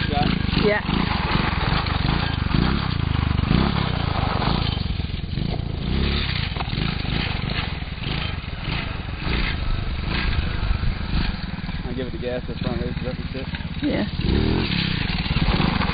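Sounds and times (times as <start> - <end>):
small engine revving: 0.0 - 15.9.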